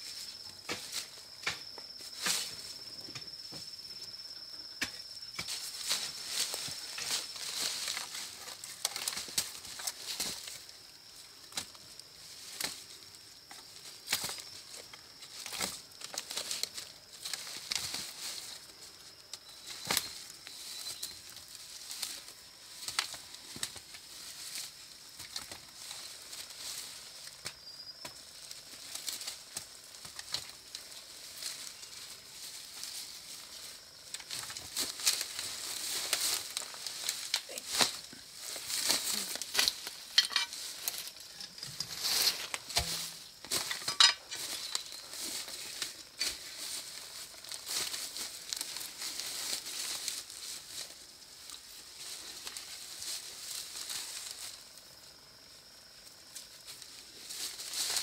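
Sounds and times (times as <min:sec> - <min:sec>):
dry grass rustling and crackling: 0:00.0 - 0:58.0.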